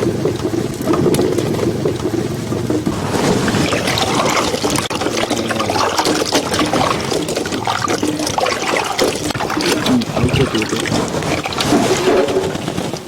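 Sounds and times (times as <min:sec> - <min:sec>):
small splashes: 0:00.0 - 0:13.0
water sloshing and trickling: 0:00.0 - 0:13.0.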